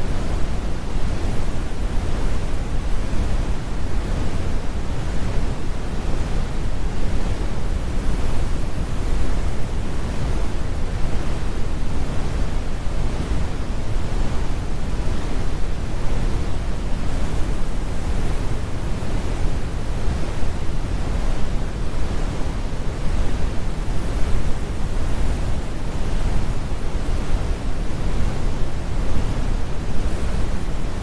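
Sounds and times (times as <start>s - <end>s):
brown noise rumbling hiss: 0.0s - 31.0s.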